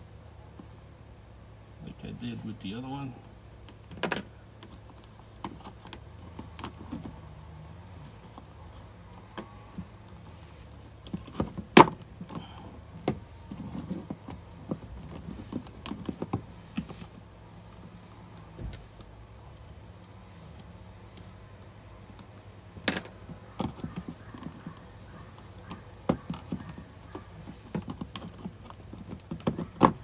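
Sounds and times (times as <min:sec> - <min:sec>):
hand work clicks and scrapes: 0:03.6 - 0:30.0.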